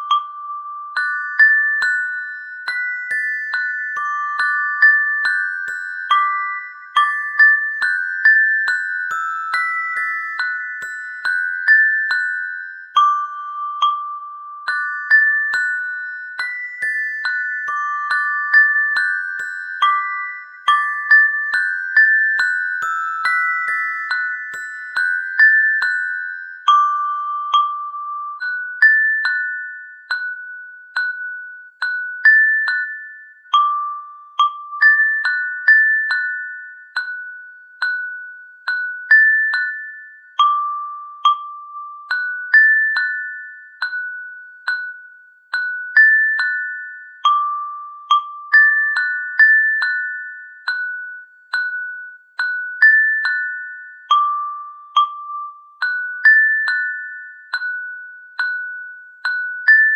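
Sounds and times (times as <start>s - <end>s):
glockenspiel melody: 0.0s - 59.9s.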